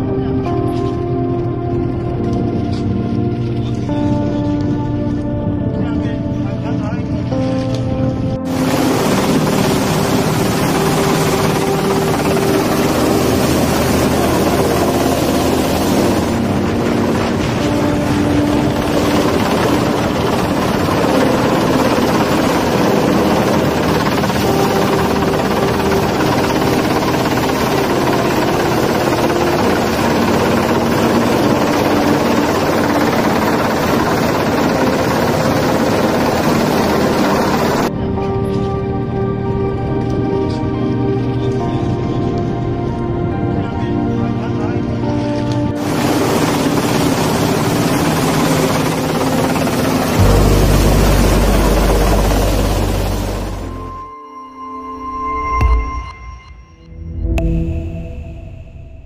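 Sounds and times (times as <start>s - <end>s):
helicopter rotor and turbine noise: 0.0s - 54.0s.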